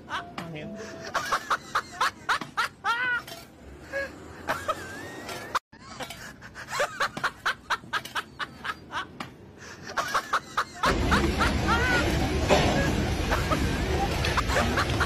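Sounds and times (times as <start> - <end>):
people laughing: 0.0 - 3.3, 3.9 - 15.0.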